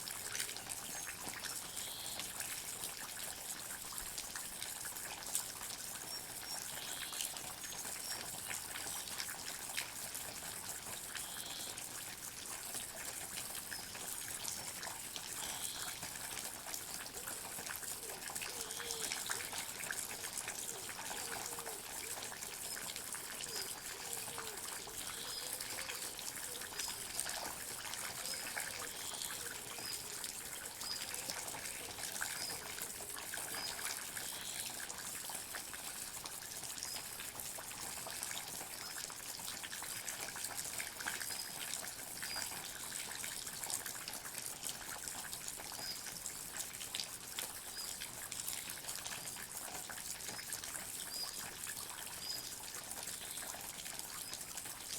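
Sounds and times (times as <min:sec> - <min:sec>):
water dripping and trickling: 0:00.0 - 0:54.9.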